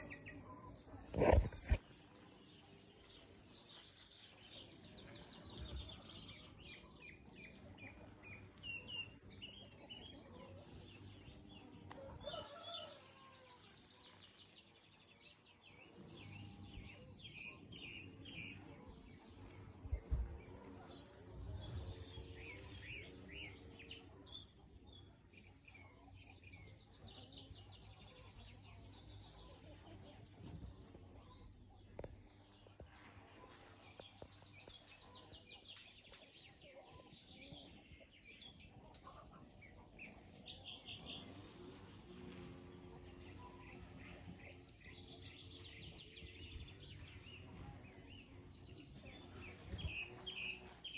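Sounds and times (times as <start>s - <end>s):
small songbirds chirping: 0.0s - 50.9s.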